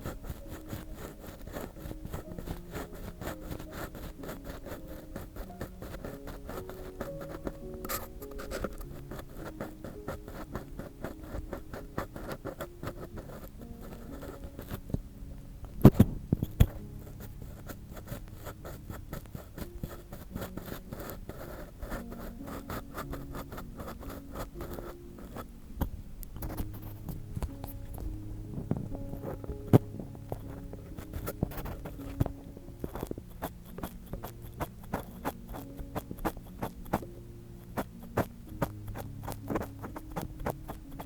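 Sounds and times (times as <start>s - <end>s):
ear pick scratching in microphone: 0.0s - 15.0s, 15.8s - 41.0s.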